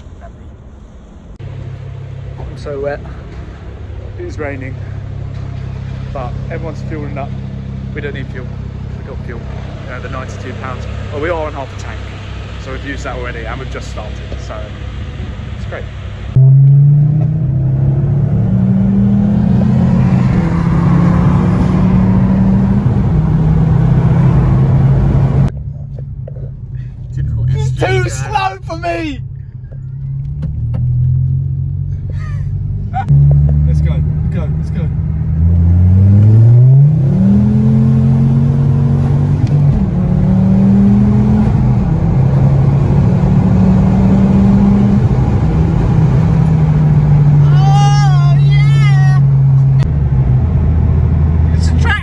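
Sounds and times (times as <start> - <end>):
loud car exhaust: 1.4 - 27.0, 29.2 - 51.8.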